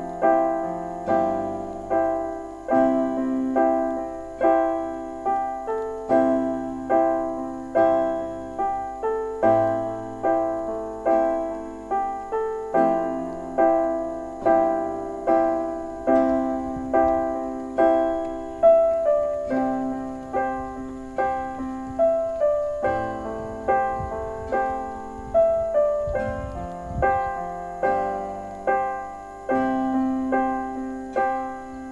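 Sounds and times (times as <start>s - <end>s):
slow piano notes: 0.0s - 31.9s.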